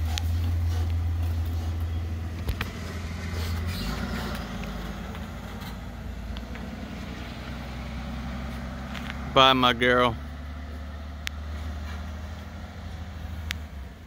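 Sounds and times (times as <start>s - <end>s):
truck engine driving past: 0.0s - 14.0s.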